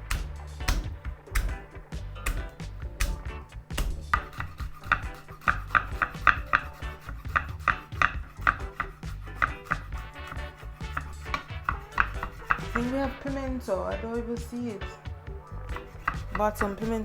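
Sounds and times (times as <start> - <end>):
knife chopping on board: 0.1 - 1.7, 2.3 - 13.3, 15.7 - 17.0.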